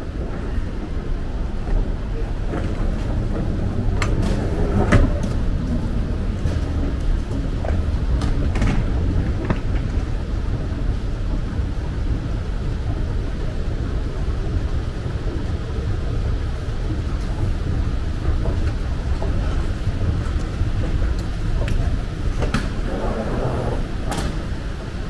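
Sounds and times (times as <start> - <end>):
terminal hall rumble: 0.0 - 25.0.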